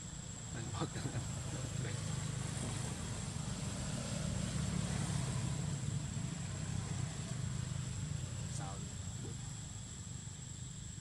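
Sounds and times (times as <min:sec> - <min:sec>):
low engine-like hum: 0:00.1 - 0:11.0.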